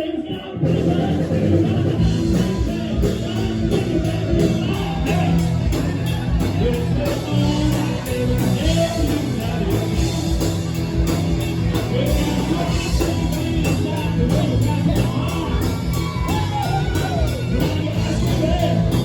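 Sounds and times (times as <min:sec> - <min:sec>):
person singing: 0:00.0 - 0:19.0
live rock band playing: 0:00.6 - 0:19.0.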